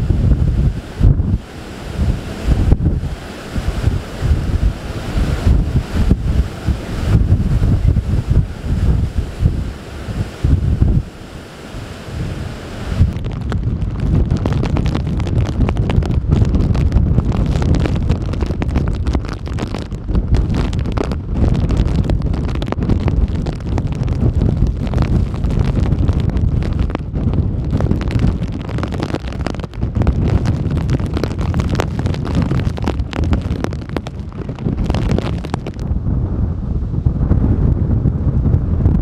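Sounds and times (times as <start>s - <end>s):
strong wind gusting on microphone: 0.0s - 39.0s.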